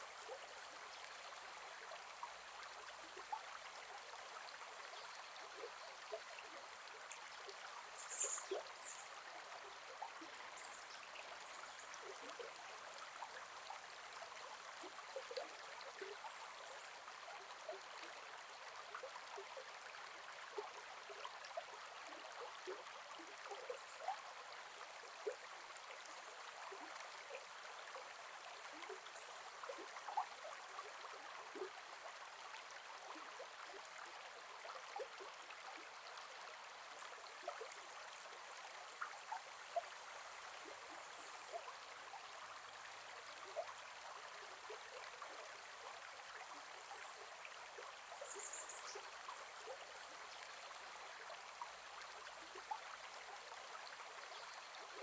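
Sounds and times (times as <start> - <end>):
river flowing with bubbling: 0.0 - 55.0.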